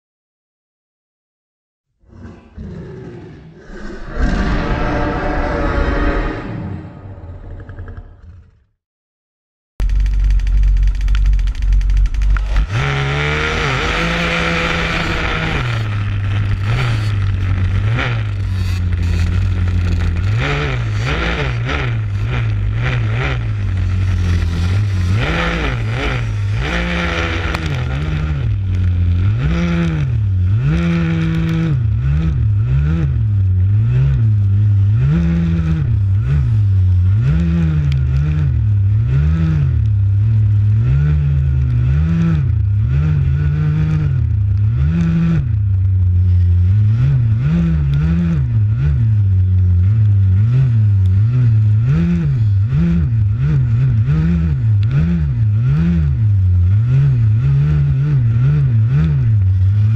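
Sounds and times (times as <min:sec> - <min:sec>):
atv engine revving: 0:09.8 - 0:59.9.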